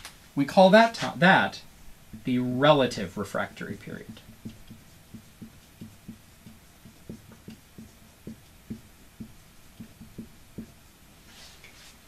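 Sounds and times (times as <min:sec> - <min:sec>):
marker writing on whiteboard: 0:02.0 - 0:12.0.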